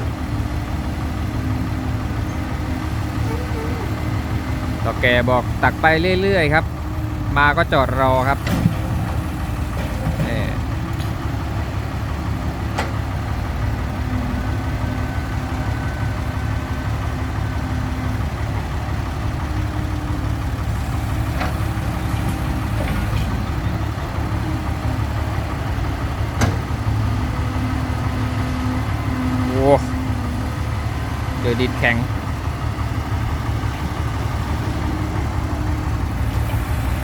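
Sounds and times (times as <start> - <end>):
diesel engines running: 0.0 - 37.0.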